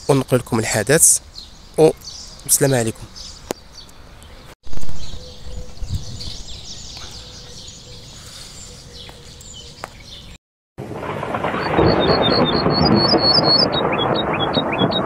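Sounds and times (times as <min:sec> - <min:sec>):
songbirds chirping and twittering: 0:00.0 - 0:10.4, 0:11.7 - 0:15.0.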